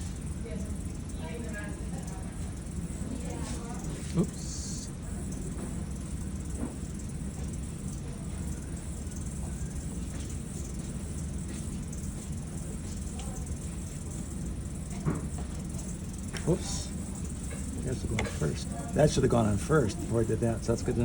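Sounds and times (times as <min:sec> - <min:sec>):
steady low background hum: 0:00.0 - 0:21.0.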